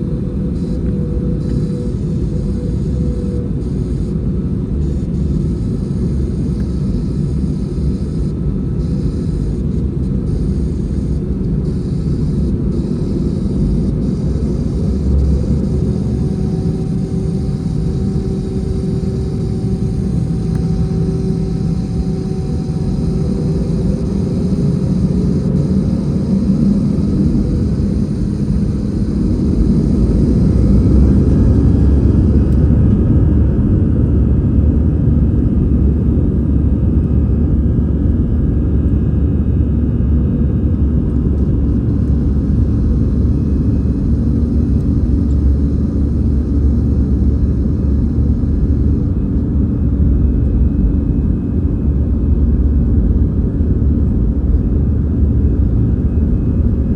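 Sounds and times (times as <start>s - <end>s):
jet engines low rumble: 0.0s - 56.9s.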